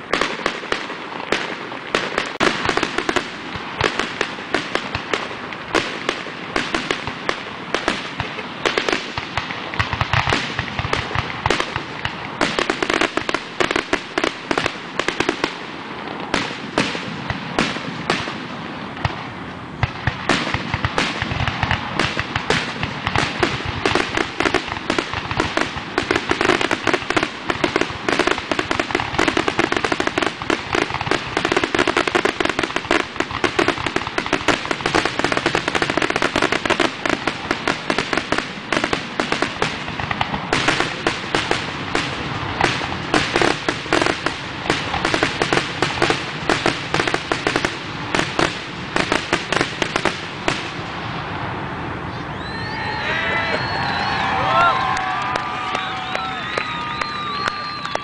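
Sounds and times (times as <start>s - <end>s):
fireworks booming and crackling: 0.0s - 52.7s, 53.5s - 58.0s.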